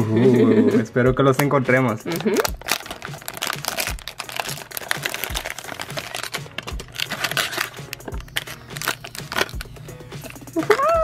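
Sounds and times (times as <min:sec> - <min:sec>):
foil and plastic bag crinkling: 0:02.1 - 0:11.0.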